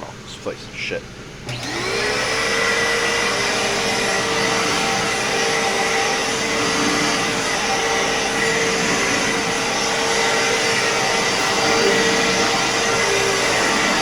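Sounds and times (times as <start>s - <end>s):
vacuum cleaner running on carpet: 1.4s - 14.0s.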